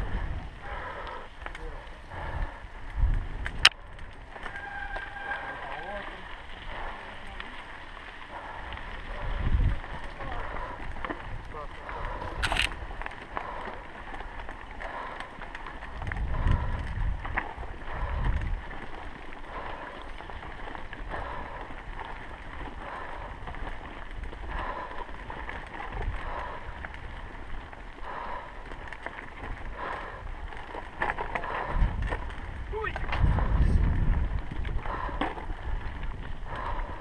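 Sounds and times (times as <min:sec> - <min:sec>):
wind buffeting microphone: 0:00.0 - 0:04.6, 0:05.2 - 0:37.0
bike rolling on rocky trail: 0:00.0 - 0:37.0.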